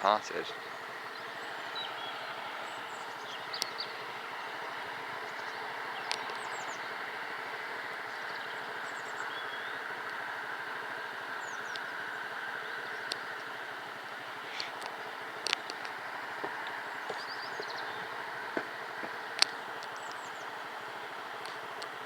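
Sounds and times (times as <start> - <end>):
outdoor background hiss: 0.0 - 22.0
small birds chirping: 0.0 - 22.0.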